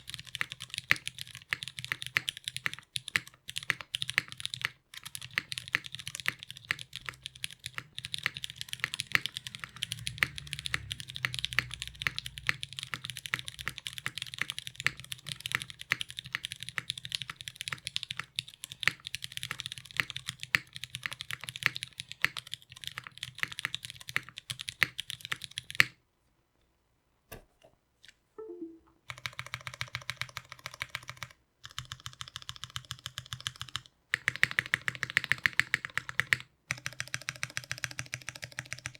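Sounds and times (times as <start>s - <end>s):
fast typing on mechanical keyboard: 0.0s - 26.0s, 29.1s - 38.9s.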